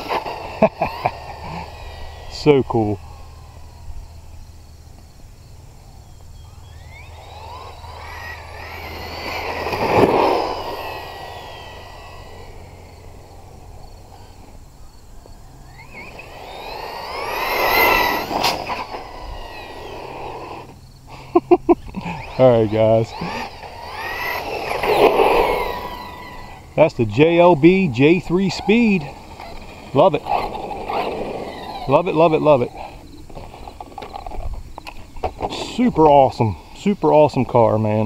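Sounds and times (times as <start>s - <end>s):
rc truck motor whine: 0.0s - 37.2s.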